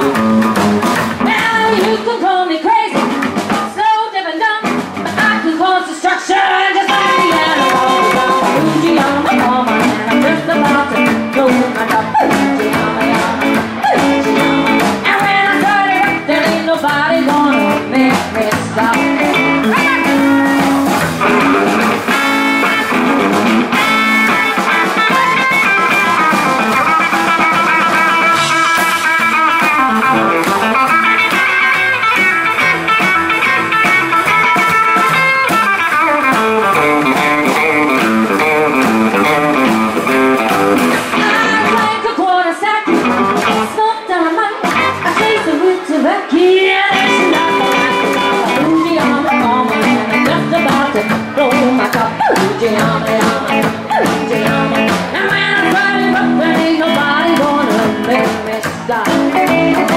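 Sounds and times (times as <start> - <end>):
electric guitar: 0.0 - 59.9
rockabilly band playing: 0.0 - 59.9.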